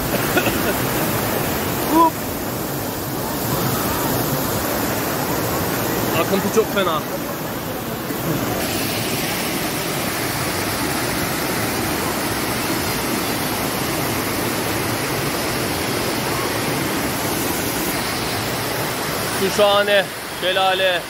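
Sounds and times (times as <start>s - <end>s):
waterfall and river rushing: 0.0s - 21.0s.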